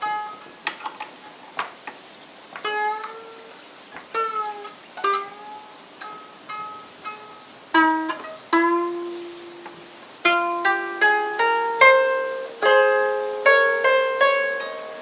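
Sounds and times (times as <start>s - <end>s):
lyre plucked slow melody: 0.0s - 15.0s.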